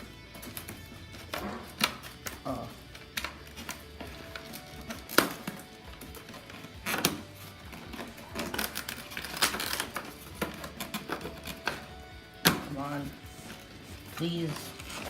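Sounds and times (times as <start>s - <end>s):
cardboard packaging forced open: 0.0s - 15.0s
faint background music: 0.0s - 15.0s.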